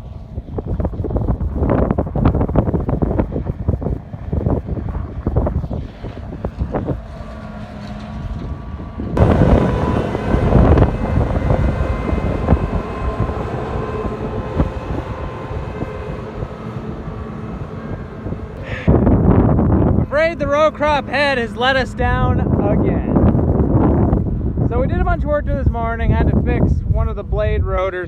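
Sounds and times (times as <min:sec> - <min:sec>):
farm machine engine whining: 0:00.0 - 0:26.3
wind buffeting microphone: 0:00.0 - 0:28.0.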